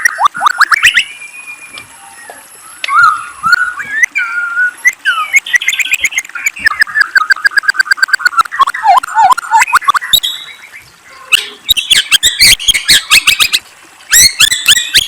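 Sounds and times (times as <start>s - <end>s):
bird singing whistled phrases: 0.0s - 15.0s.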